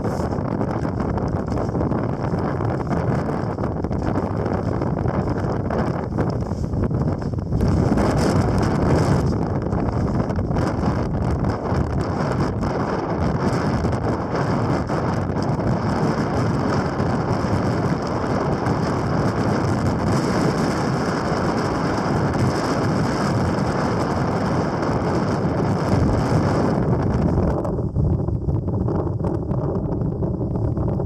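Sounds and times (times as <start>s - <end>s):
strong wind blowing on microphone: 0.0s - 31.0s.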